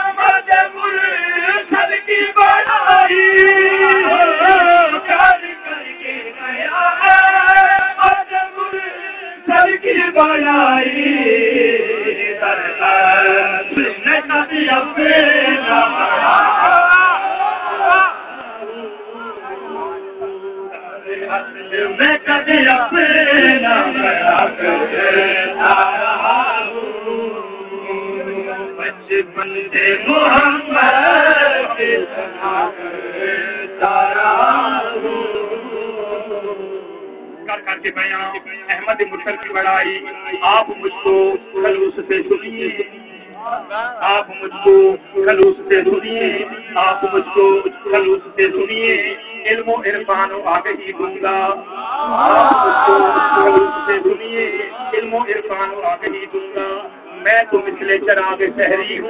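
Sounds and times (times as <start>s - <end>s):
man chanting into a microphone: 0.0s - 59.0s.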